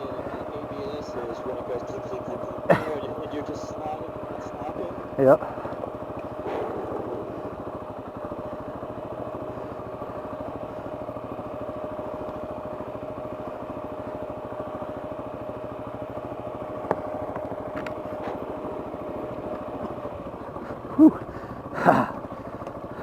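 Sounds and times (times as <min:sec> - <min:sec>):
motorcycle engine running steadily: 0:00.0 - 0:23.0
thin steady whine: 0:00.0 - 0:23.0.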